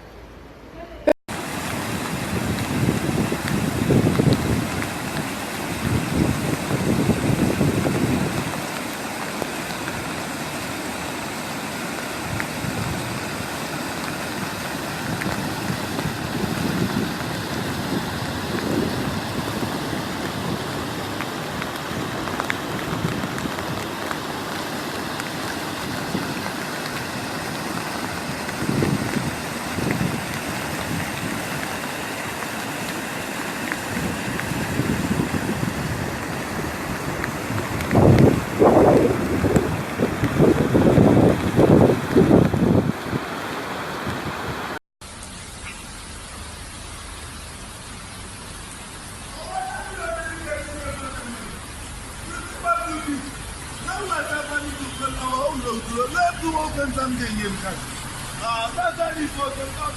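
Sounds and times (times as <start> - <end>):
water rushing: 1.3 - 59.9.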